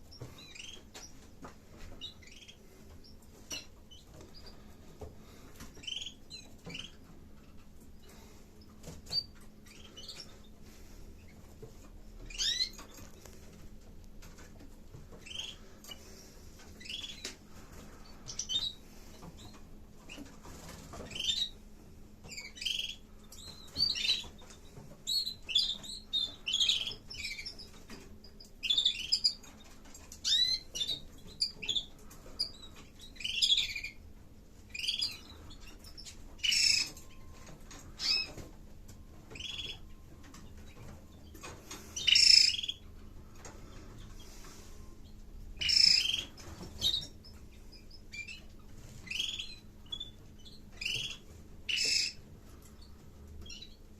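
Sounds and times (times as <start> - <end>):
canaries chirping: 0.0 - 53.9.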